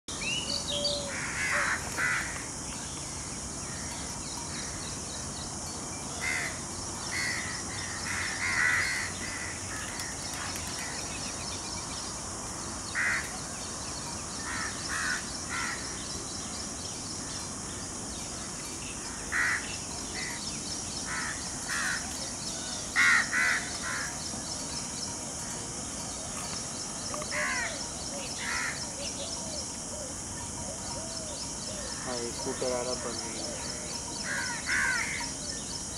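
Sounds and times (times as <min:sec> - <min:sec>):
steady high hiss: 0:00.1 - 0:35.9.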